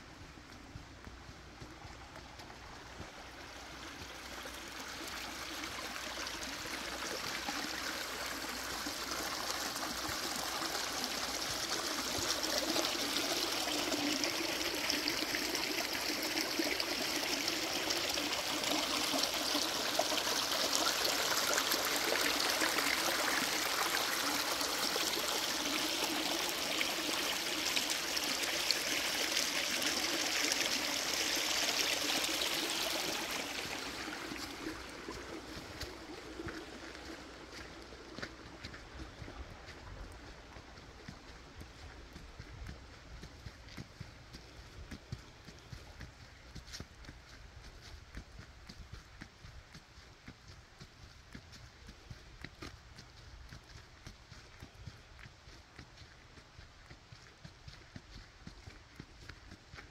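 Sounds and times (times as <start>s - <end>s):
rushing creek water: 0.0s - 59.9s.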